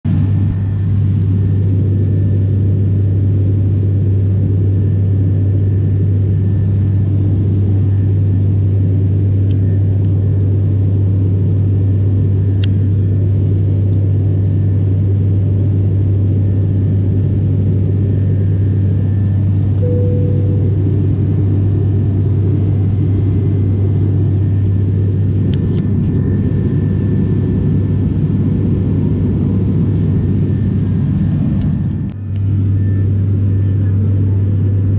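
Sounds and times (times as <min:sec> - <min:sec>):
airliner cabin drone: 0:00.0 - 0:34.9.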